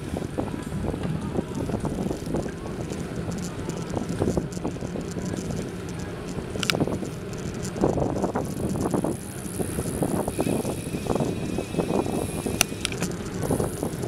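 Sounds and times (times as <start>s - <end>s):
bicycle tyres on paved road: 0.0s - 14.0s
wind on microphone: 0.0s - 14.0s
small clicks and rattles: 0.6s - 14.0s.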